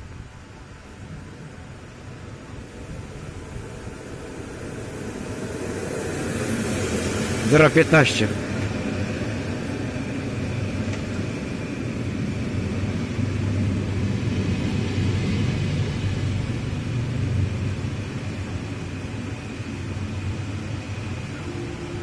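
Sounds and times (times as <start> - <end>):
faint high whine: 0.0 - 22.0
train wheels rumbling: 0.0 - 22.0.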